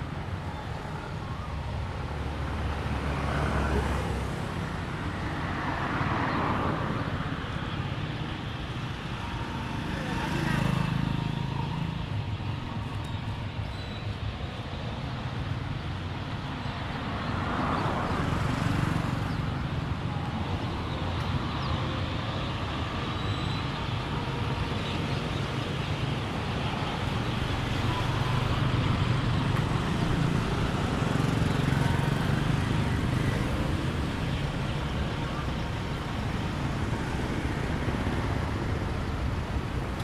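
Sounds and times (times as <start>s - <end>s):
vehicles driving past: 0.0s - 40.0s.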